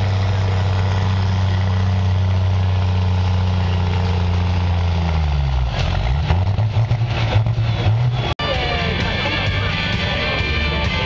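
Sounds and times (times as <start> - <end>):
diesel truck engine at full throttle: 0.0 - 11.0.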